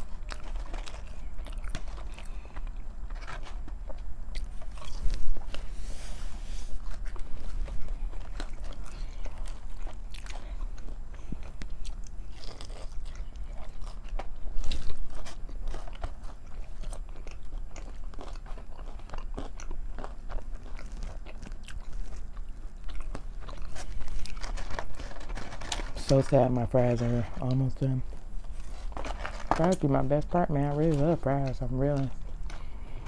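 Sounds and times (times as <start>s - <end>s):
biting and chewing food: 0.0s - 33.0s.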